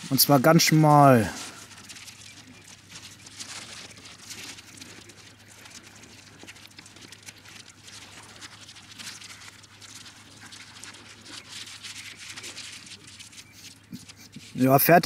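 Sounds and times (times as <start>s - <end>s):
paper towel crinkling: 0.0s - 15.0s.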